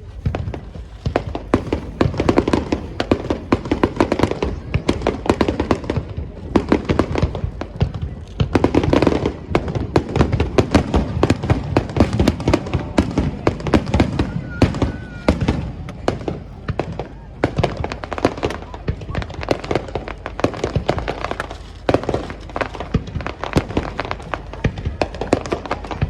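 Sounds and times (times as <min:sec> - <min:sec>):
fireworks cracks and bangs: 0:00.0 - 0:26.0.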